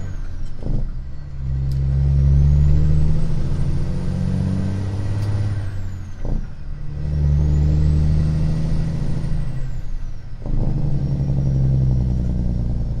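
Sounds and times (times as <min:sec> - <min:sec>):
diesel truck engine drone: 0:00.0 - 0:13.0.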